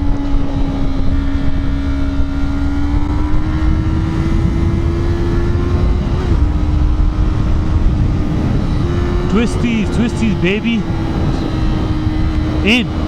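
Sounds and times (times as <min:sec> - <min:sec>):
wind rush on microphone: 0:00.0 - 0:13.0
motorcycle engine pulling: 0:02.5 - 0:13.0.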